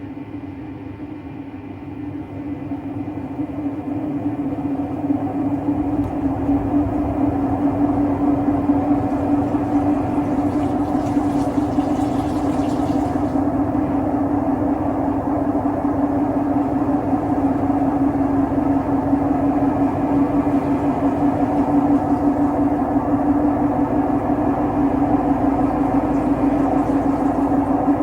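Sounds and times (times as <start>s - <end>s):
washing machine drum roaring: 3.9s - 28.0s.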